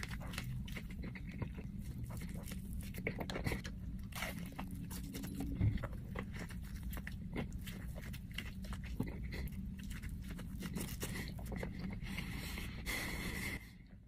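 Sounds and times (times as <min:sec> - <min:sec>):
crunchy chewing: 0:00.0 - 0:13.6.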